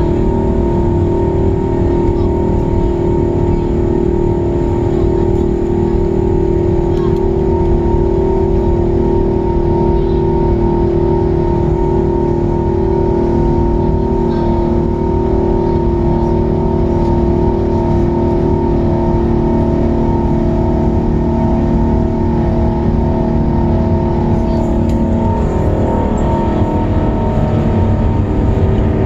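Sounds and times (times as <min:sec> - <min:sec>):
jet engines roaring: 0:00.0 - 0:29.0
steady humming tones: 0:00.0 - 0:29.0.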